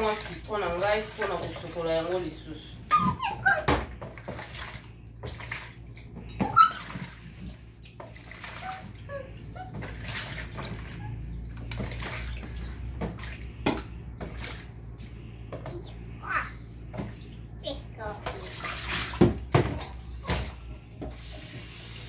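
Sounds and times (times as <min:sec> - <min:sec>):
hands sloshing in water basin: 0:00.0 - 0:15.7, 0:16.8 - 0:21.7.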